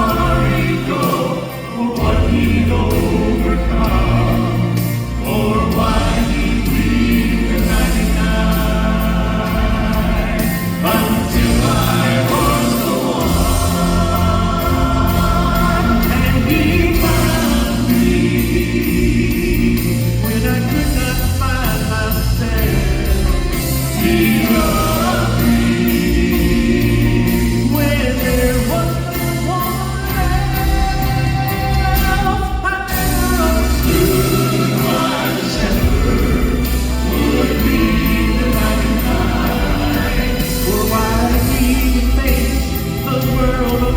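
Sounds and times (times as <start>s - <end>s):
band with bass and drums: 0.0s - 43.9s
voices singing in harmony: 0.0s - 43.9s.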